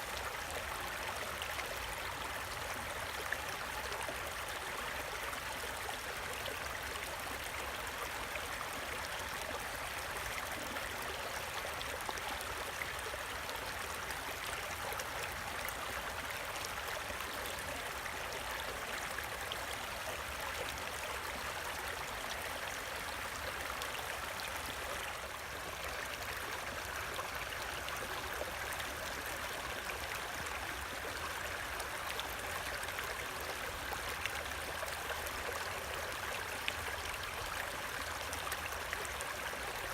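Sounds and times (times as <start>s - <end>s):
creek water rushing and splashing: 0.0s - 39.9s.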